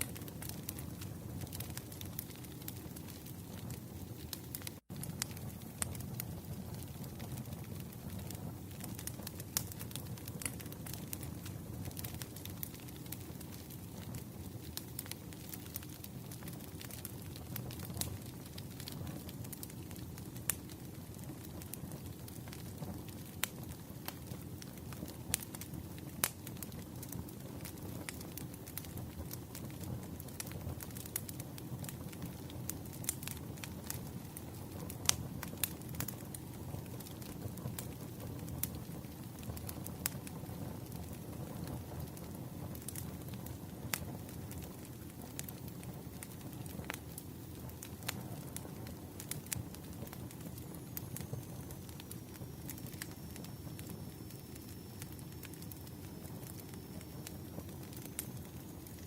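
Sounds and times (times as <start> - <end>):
sharp pops and snaps of fire: 0.0 - 59.0
wood fire crackling: 0.0 - 59.0.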